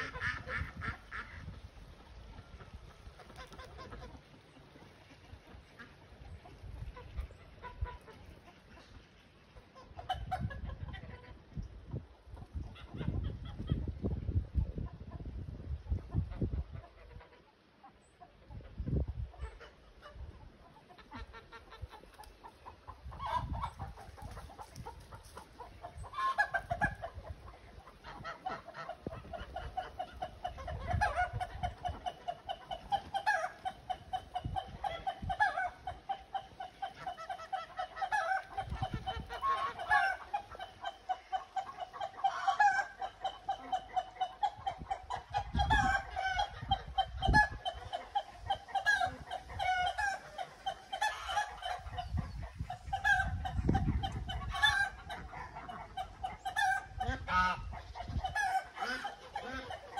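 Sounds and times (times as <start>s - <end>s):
geese and chickens calling: 0.0s - 59.9s.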